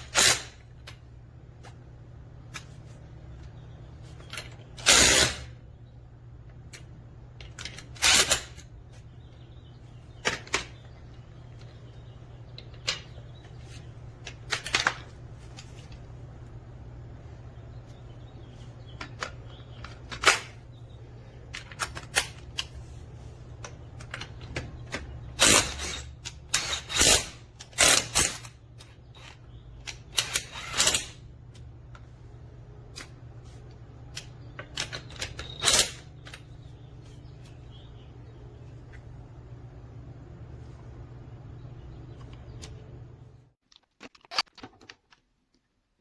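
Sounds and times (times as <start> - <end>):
steady low hum: 0.0 - 43.6.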